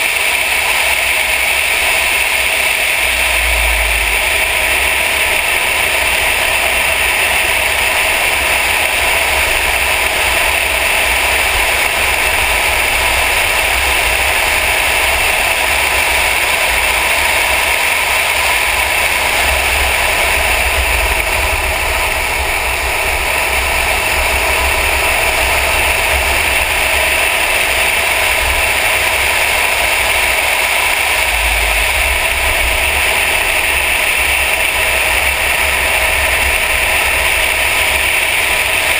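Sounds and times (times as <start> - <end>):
car engine: 0.0 - 38.9
wind and road noise: 0.0 - 38.9.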